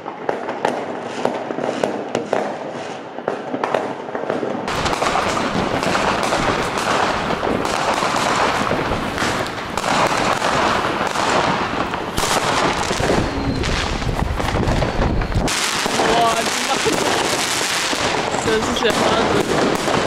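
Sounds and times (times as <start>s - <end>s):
fireworks banging and crackling: 0.0s - 20.0s.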